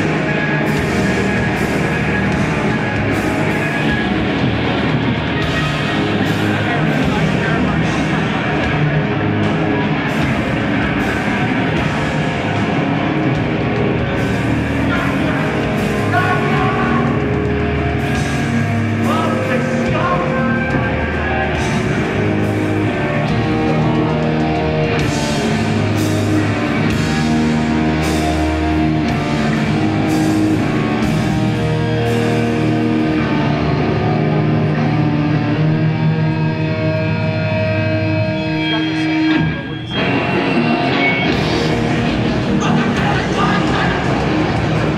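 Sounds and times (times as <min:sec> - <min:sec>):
punk band playing live: 0:00.0 - 0:44.9.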